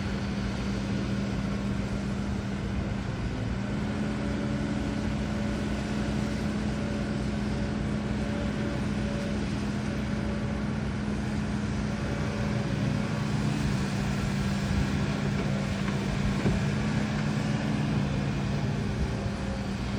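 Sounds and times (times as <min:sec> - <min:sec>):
excavator diesel engine running: 0:00.0 - 0:19.9
lower engine note: 0:00.0 - 0:19.9.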